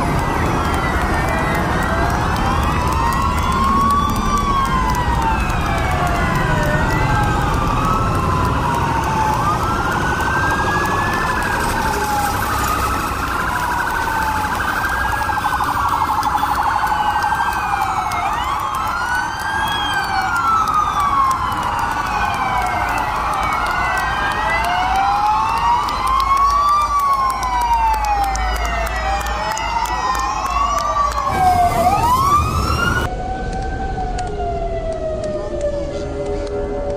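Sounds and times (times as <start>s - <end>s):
fire truck sirens wailing: 0.0s - 36.9s.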